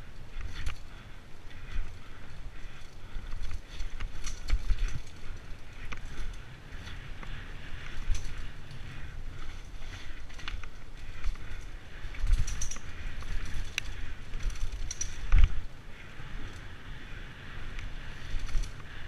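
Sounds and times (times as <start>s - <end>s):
bike clicking and rattling: 0.0s - 19.0s.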